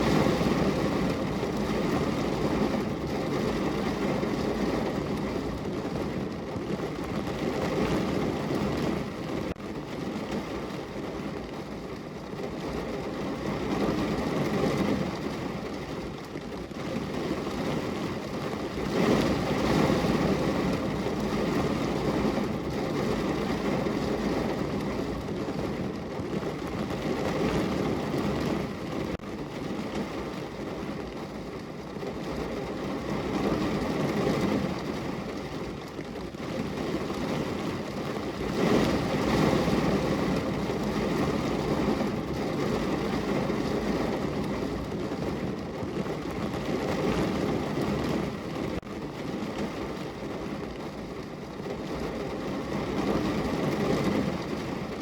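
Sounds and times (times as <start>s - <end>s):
heavy rain on car roof: 0.0s - 55.0s.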